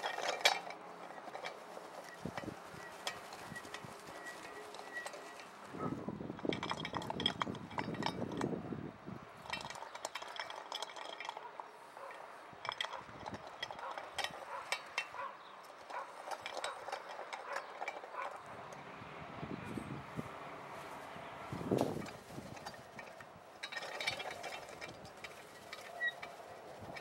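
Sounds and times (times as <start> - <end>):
spiked roller clicking and clinking: 0.0 - 8.6, 9.4 - 18.9, 20.8 - 27.0
crunching rumble: 0.0 - 27.0.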